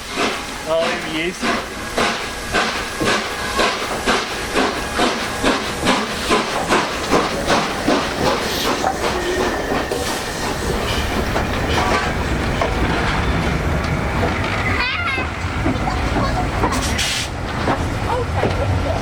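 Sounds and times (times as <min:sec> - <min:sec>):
steam hissing: 0:00.0 - 0:14.8, 0:15.4 - 0:17.6
steam locomotive exhaust beats: 0:00.0 - 0:19.0.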